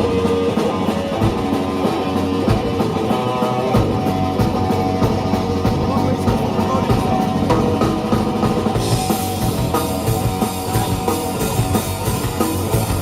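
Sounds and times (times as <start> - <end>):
drum kit beat: 0.0 - 13.0
electric guitar chords: 0.0 - 13.0.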